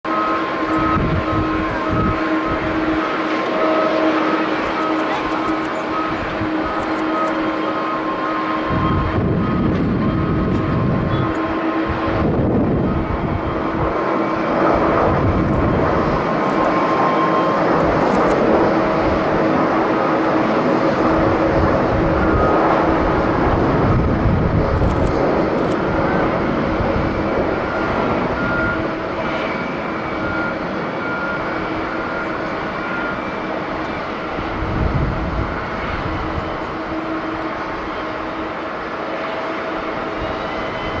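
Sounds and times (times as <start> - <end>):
jet engines at takeoff power: 0.0 - 41.0
wind buffeting microphone: 0.5 - 41.0.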